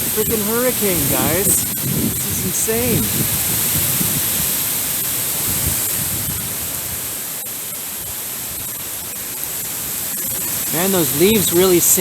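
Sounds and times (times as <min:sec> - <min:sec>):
wind buffeting microphone: 0:00.0 - 0:12.0
wind rushing through leaves: 0:00.0 - 0:12.0.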